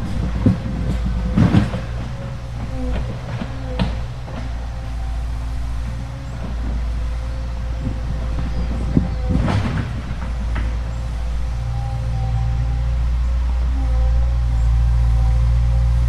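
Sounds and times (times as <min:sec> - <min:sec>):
excavator engine running: 0:00.0 - 0:16.0
steady whine: 0:00.0 - 0:16.0.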